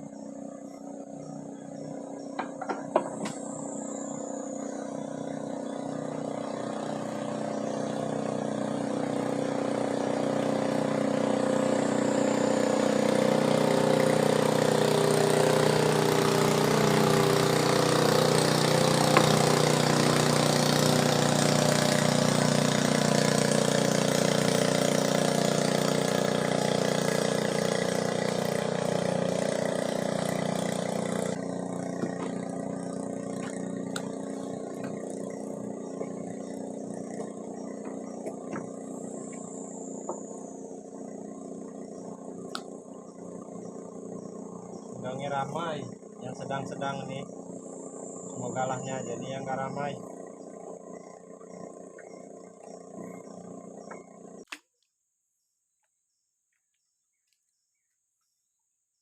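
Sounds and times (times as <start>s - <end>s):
motor engine passing by: 3.3s - 54.4s.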